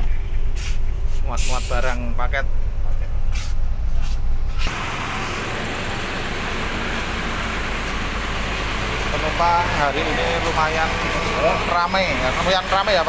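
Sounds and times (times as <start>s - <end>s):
bus engine idling: 0.0s - 13.0s
hiss and rumble beside bus: 0.0s - 13.0s.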